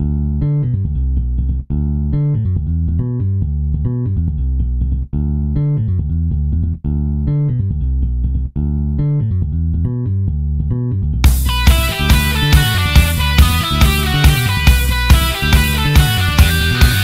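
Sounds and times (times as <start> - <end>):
instrumental riff: 0.0 - 17.0.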